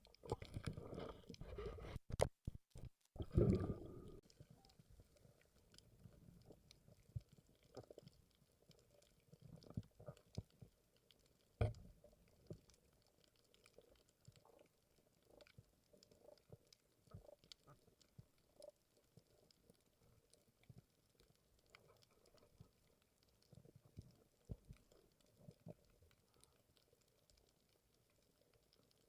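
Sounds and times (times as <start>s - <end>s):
faint underwater ambience: 0.0s - 29.0s.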